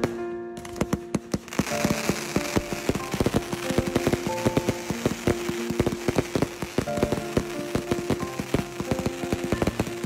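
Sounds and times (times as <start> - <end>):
fireworks crackling: 0.0 - 10.0
held music notes: 0.0 - 10.0.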